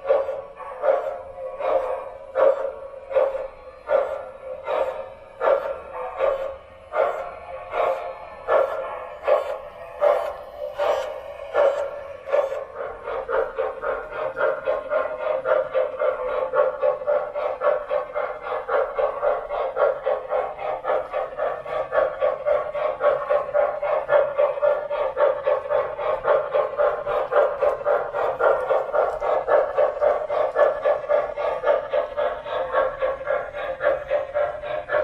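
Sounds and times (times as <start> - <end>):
model train steam chuffs: 0.0 - 35.0.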